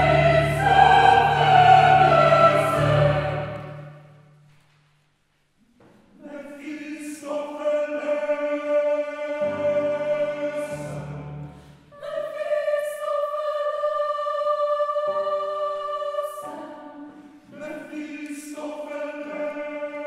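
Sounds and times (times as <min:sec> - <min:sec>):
choir singing held chords: 0:00.0 - 0:04.3, 0:06.2 - 0:20.0.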